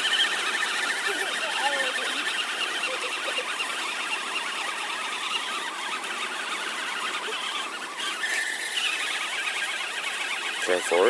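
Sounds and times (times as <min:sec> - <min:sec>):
electric motors whining: 0:00.0 - 0:11.0.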